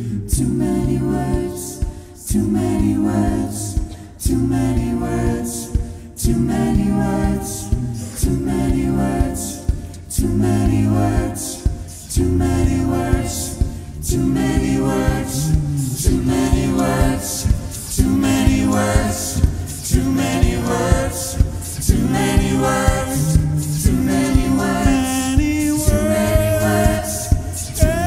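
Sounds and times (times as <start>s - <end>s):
lead voice singing: 0.0s - 28.0s
sustained vocal chords: 0.0s - 28.0s
vocal percussion beat: 0.0s - 28.0s.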